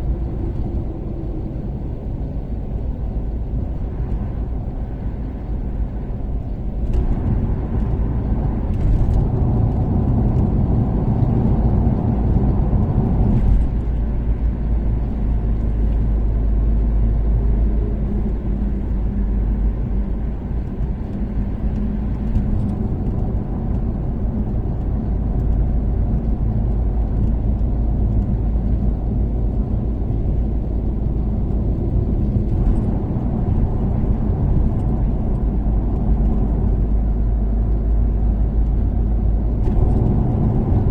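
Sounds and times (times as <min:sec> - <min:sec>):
car engine cruising: 0:00.0 - 0:40.9.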